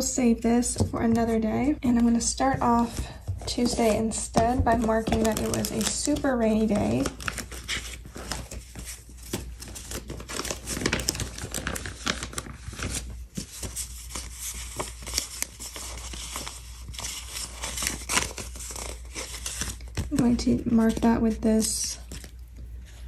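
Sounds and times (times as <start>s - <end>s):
paper sheets rustling and crinkling: 0.0s - 23.0s.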